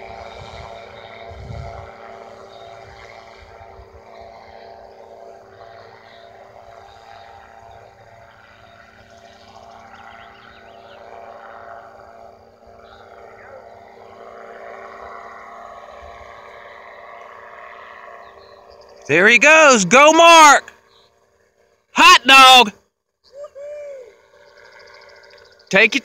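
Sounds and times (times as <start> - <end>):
small aircraft engine drone: 0.0 - 26.0.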